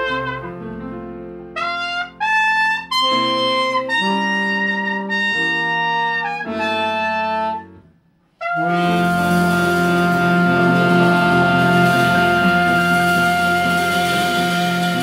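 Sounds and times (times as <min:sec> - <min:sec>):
swing band playing chords: 0:00.0 - 0:07.8, 0:08.4 - 0:15.0.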